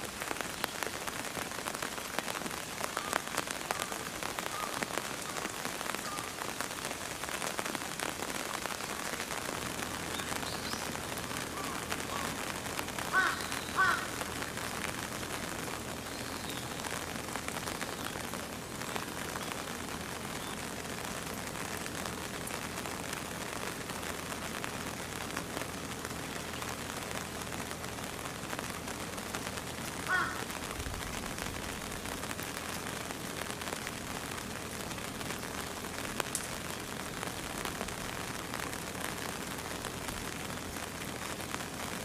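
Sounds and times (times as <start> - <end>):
steady rain: 0.0 - 42.0.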